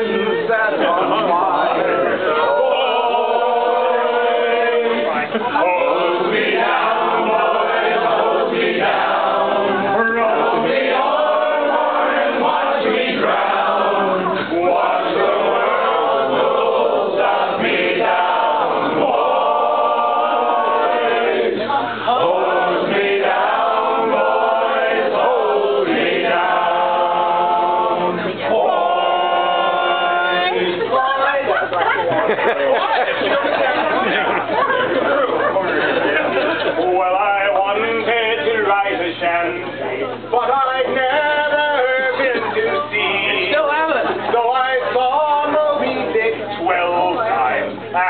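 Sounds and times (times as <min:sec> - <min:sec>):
group singing unaccompanied: 0:00.0 - 0:48.0.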